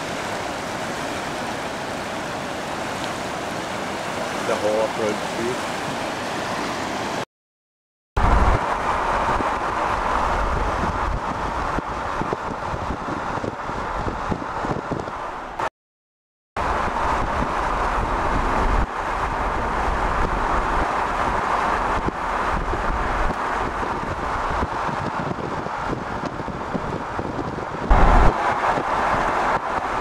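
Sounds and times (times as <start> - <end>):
road and wind noise inside car: 0.0 - 7.2, 8.2 - 15.7, 16.6 - 30.0.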